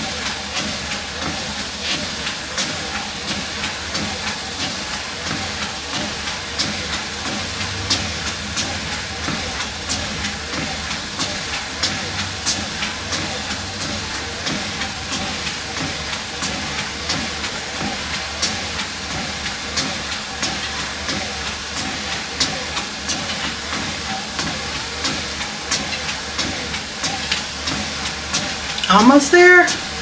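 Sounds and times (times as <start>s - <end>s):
footfalls on treadmill belt: 0.0s - 30.0s
treadmill motor and belt whir: 0.0s - 30.0s.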